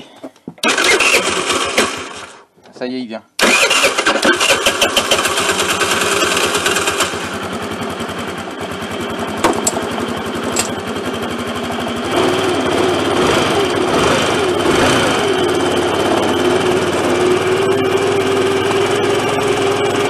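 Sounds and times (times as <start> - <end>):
scooter engine running: 0.6 - 2.3, 3.4 - 20.0.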